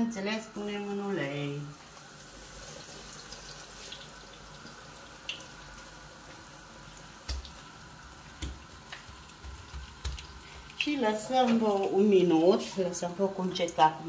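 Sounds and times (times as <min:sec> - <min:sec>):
dough sizzling in hot oil: 0:00.1 - 0:14.0.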